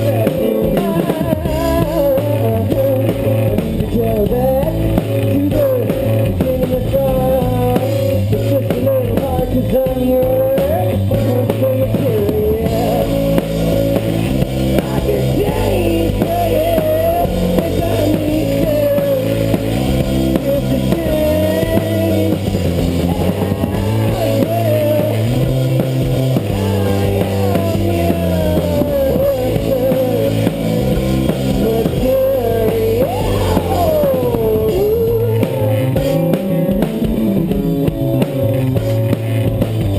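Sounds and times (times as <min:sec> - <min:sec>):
bass: 0:00.0 - 0:39.9
drum kit: 0:00.0 - 0:39.9
electric guitar: 0:00.0 - 0:39.9.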